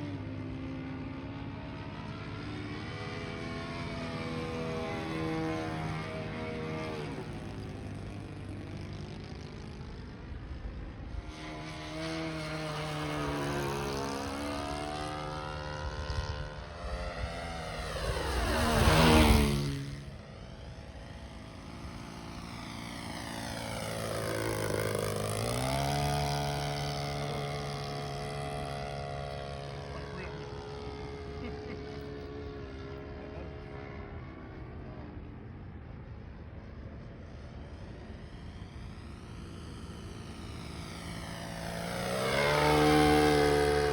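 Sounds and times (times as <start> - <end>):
model plane propeller engine droning: 0.0 - 43.9.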